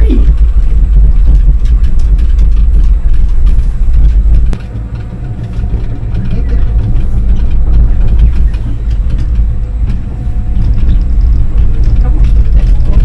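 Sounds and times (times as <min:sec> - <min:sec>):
lift carriage rumbling: 0:00.0 - 0:13.0.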